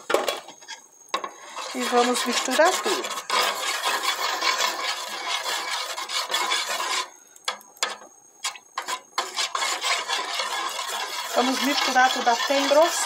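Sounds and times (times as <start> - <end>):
metal spoon scraping a pot: 0.1 - 13.0.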